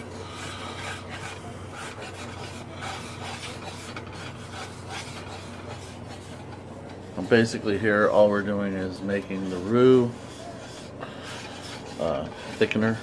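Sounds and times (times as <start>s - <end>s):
spatula scraping flour in skillet: 0.0s - 13.0s.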